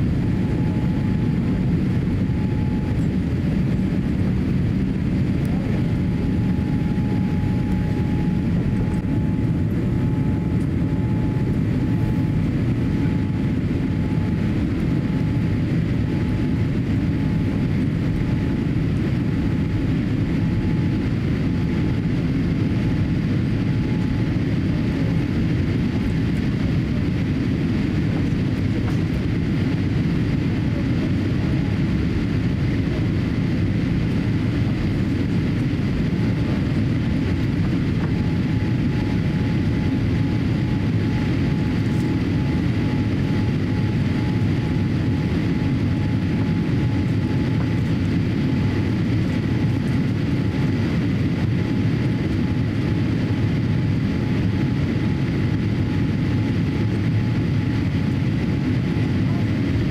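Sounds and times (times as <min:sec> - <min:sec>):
jet engine roar and rushing air: 0:00.0 - 0:59.9.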